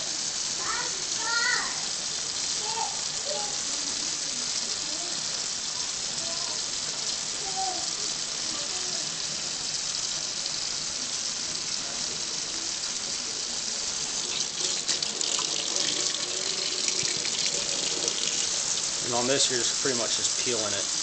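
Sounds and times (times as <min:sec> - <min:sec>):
faucet running into steel sink: 0:00.0 - 0:21.0.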